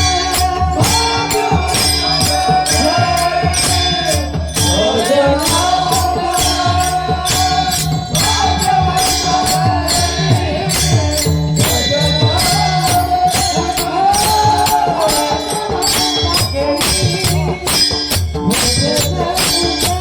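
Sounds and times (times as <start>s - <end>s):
drum beat: 0.0s - 20.0s
hand cymbals jingling: 0.0s - 20.0s
man singing devotional song: 0.0s - 20.0s.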